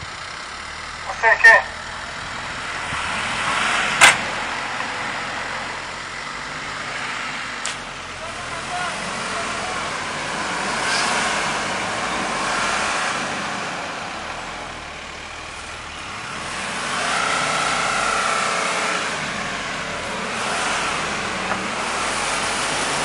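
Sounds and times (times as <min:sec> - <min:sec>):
vehicle engine straining and revving: 0:00.0 - 0:23.0.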